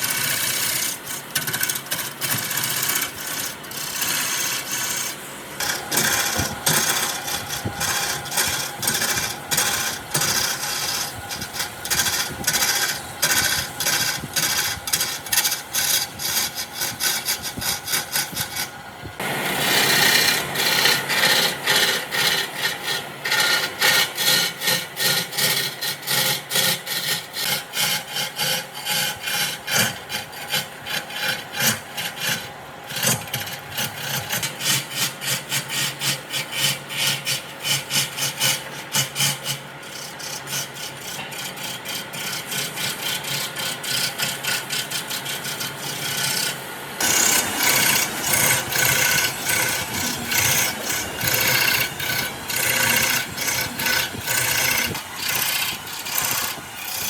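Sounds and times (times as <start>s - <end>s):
hand tool working wood: 0.0s - 57.0s.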